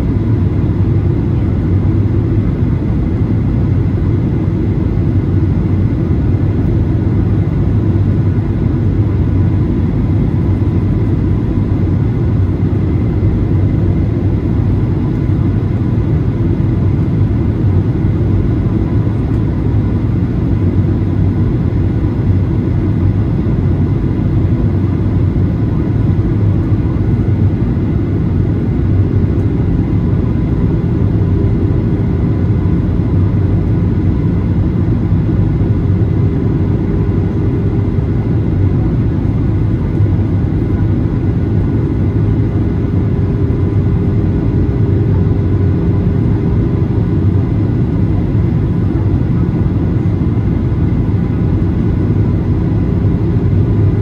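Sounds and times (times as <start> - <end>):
airliner cabin engine noise: 0.0 - 54.0
faint hum: 0.0 - 54.0.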